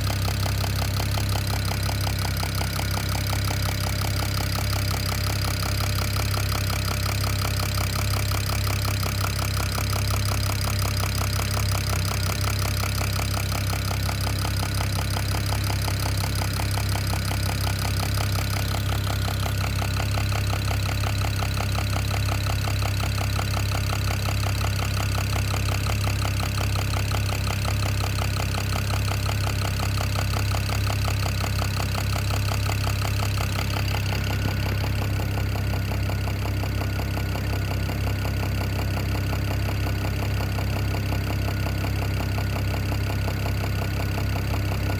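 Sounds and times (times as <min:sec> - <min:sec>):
car engine idling: 0:00.0 - 0:44.9
rapid engine knocking: 0:00.0 - 0:44.9.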